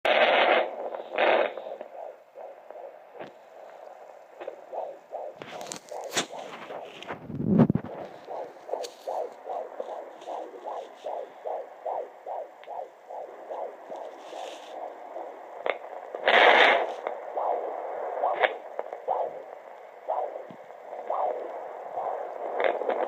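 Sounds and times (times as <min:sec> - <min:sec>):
fetal heartbeat whooshing pulse: 0:00.1 - 0:23.0.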